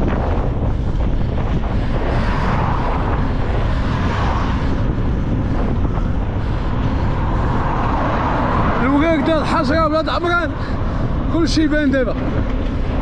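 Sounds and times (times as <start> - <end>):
road and vehicle rumble: 0.0 - 13.0
wind buffeting microphone: 0.0 - 13.0.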